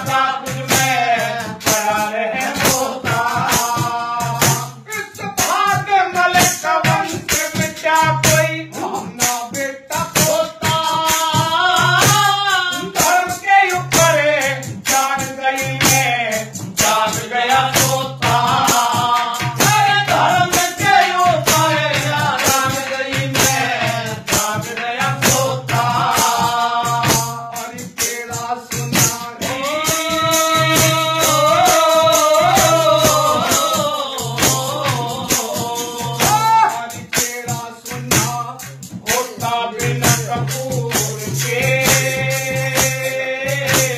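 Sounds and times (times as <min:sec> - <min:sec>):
man singing folk song: 0:00.0 - 0:43.9
rhythmic percussion: 0:00.0 - 0:43.9.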